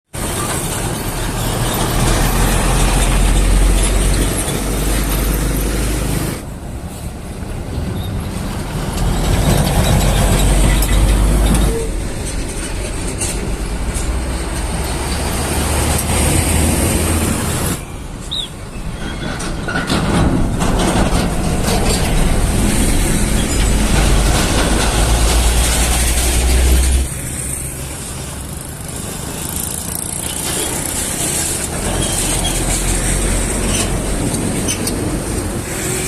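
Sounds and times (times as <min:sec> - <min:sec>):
tyre and road noise: 0:00.0 - 0:36.0
diesel trucks driving past: 0:00.2 - 0:36.0.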